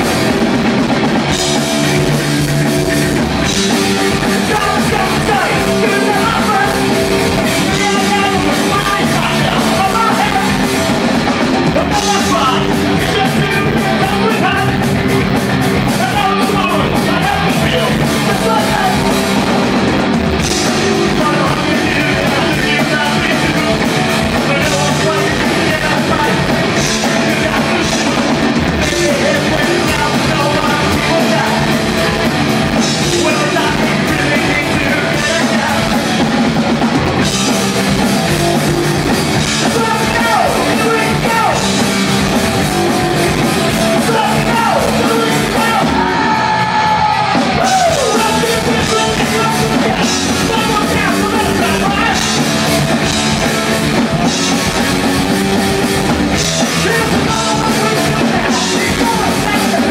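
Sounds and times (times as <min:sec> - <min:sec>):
punk rock band playing live: 0:00.0 - 0:59.9
person singing: 0:03.4 - 0:59.9.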